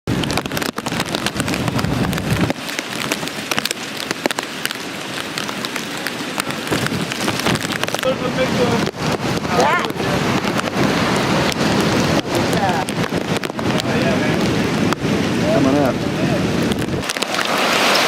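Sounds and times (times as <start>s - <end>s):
heavy rain pelting a surface: 0.0s - 18.0s.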